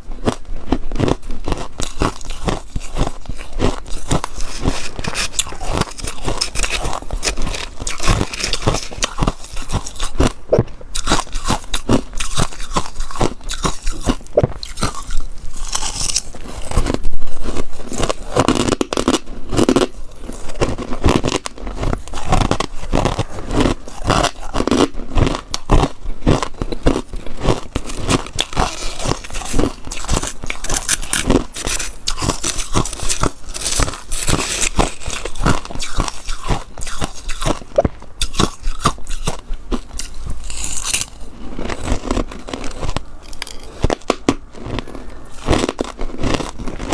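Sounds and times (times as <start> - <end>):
crunchy chewing of frost: 0.1 - 46.9.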